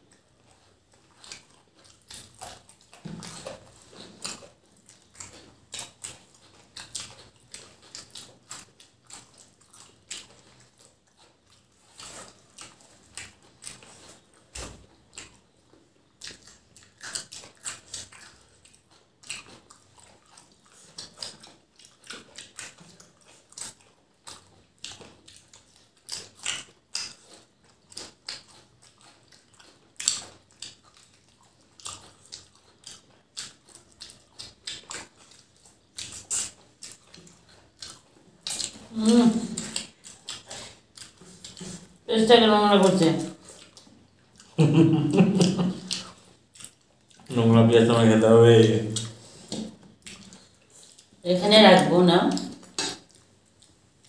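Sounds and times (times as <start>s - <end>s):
chewing and lip smacks: 0.0s - 42.1s, 42.8s - 47.4s, 48.8s - 54.0s.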